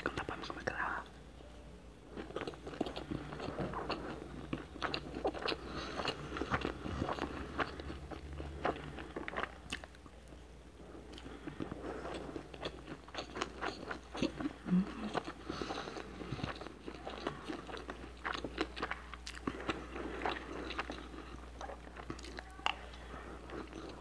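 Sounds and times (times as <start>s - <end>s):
chewing with wet clicks: 2.1s - 10.4s, 11.1s - 24.0s.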